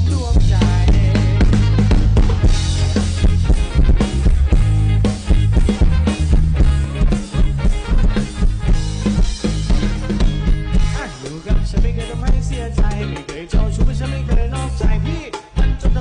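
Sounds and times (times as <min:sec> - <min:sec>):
music with drum beat and bass: 0:00.0 - 0:16.0.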